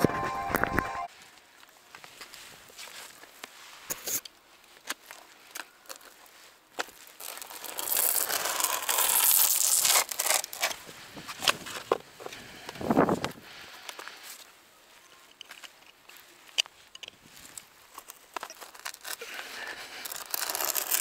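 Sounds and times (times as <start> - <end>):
roofing felt crinkling and scraping: 0.0 - 21.0.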